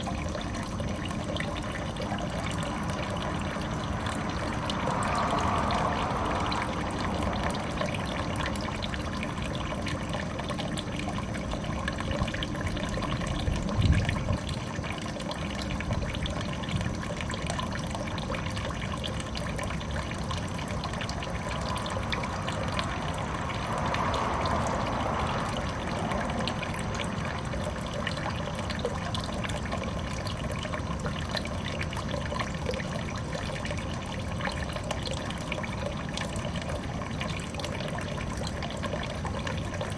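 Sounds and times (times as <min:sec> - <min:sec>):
water falling and trickling: 0:00.0 - 0:39.9.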